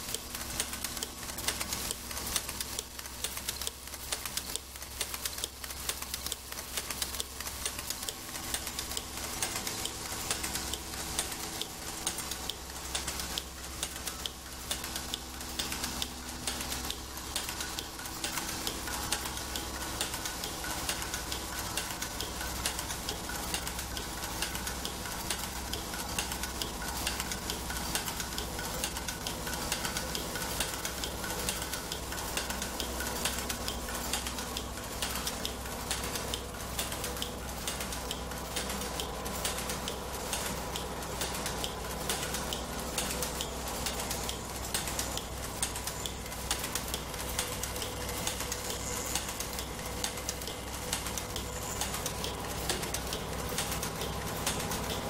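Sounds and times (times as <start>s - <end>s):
low machine hum: 0.0s - 55.0s
machine clicking and clattering: 0.0s - 55.0s.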